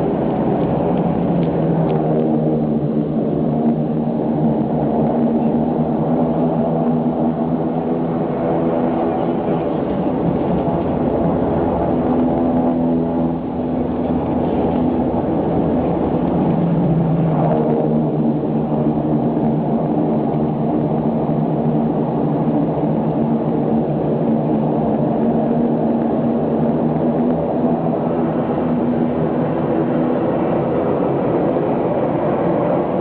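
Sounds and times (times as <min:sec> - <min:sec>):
aircraft engines droning in cabin: 0:00.0 - 0:33.0.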